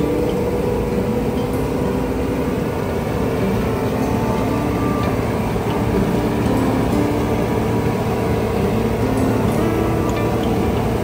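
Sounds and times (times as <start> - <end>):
harvesting machine engine drone: 0.0 - 11.0
steady tones: 0.0 - 11.0.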